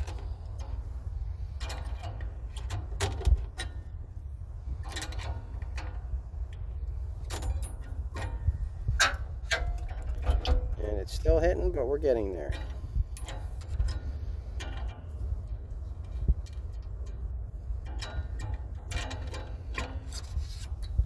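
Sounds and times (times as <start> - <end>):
wrench clicking and scraping: 0.0 - 4.0, 4.6 - 10.9, 12.4 - 21.0.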